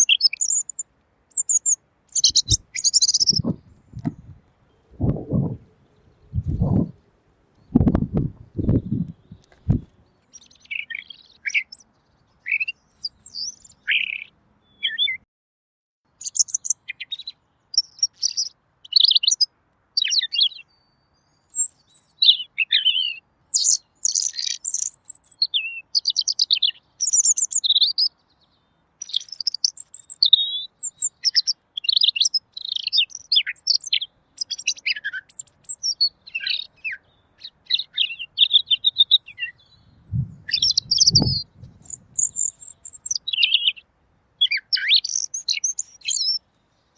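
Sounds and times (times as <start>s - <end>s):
bird warbling song: 0.0s - 15.2s, 16.2s - 46.9s.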